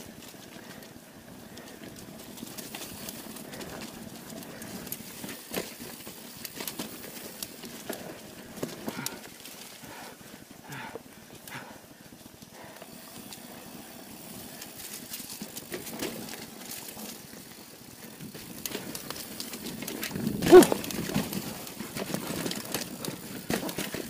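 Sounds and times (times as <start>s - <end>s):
bike rattling over bumps: 0.0s - 24.0s
bike tyres on loose dirt: 0.0s - 24.0s.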